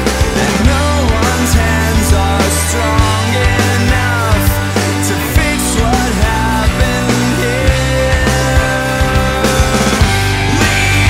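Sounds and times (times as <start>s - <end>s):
rock music with drums: 0.0s - 11.0s.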